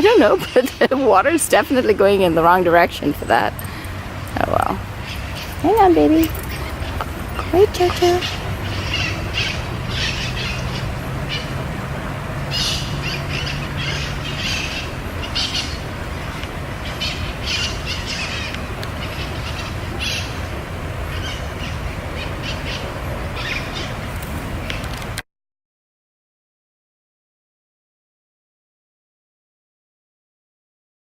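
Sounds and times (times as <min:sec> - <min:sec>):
low background rumble: 0:00.0 - 0:25.0
small birds chirping: 0:00.0 - 0:25.0.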